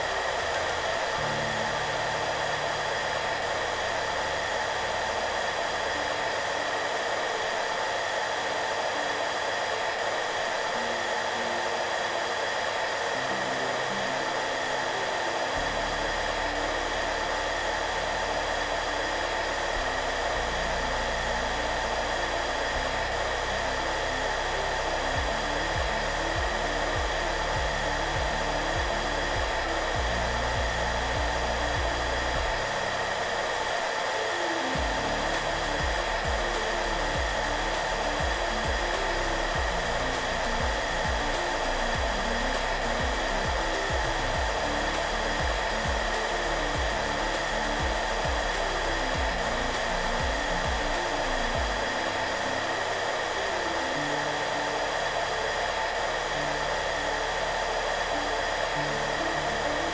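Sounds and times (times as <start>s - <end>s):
hairdryer running: 0.0s - 59.9s
soft background music: 0.0s - 59.9s.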